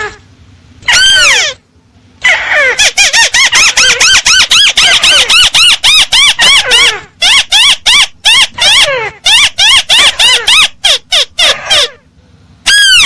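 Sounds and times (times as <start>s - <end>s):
crake calls: 0.8s - 1.6s, 2.2s - 13.0s.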